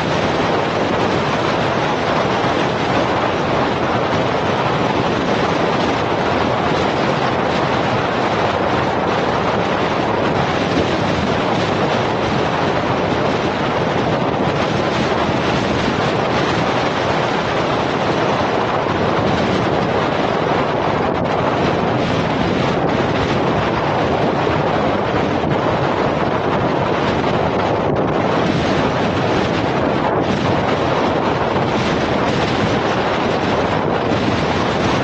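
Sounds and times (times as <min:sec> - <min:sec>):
wind on microphone: 0:00.0 - 0:35.0.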